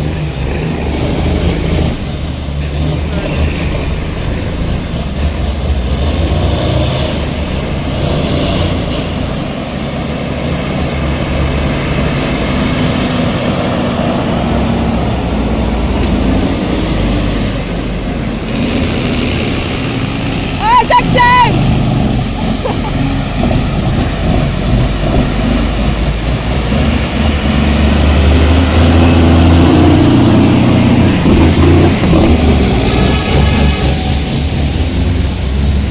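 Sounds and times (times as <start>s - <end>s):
road noise: 0.0s - 35.9s
vehicle engine droning: 0.0s - 35.9s.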